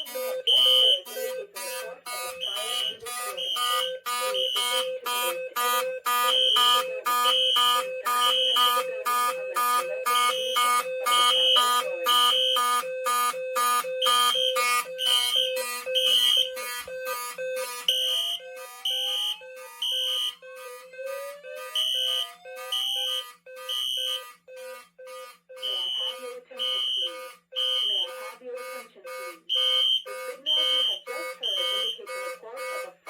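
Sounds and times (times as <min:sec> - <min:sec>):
high pulsed alarm tone: 0:00.0 - 0:33.0
low alarm tone: 0:00.0 - 0:33.0.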